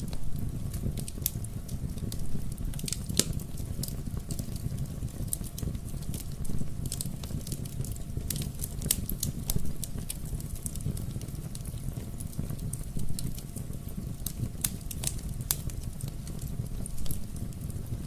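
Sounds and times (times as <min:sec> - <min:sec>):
fireplace wood fire crackling: 0:00.0 - 0:18.0.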